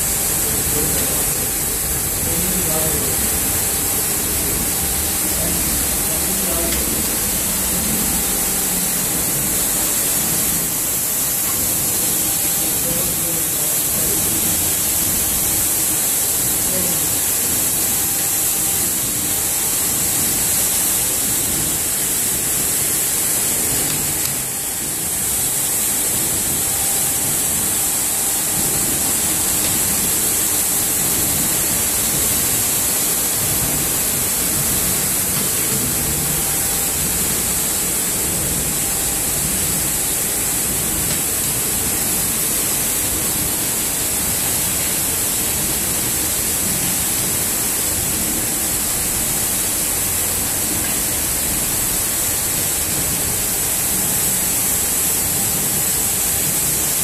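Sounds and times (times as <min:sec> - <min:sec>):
carpet washing machine scrubbing: 0:00.0 - 0:57.0.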